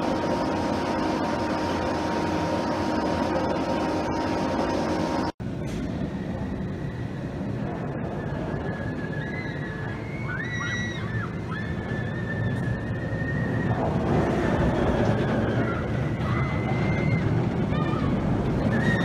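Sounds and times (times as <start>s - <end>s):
roller coaster rumbling on track: 0.0s - 19.0s.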